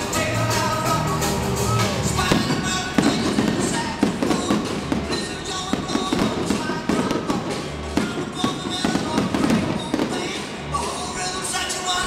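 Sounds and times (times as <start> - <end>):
music playing: 0.0 - 12.0
fireworks bangs: 1.8 - 12.0.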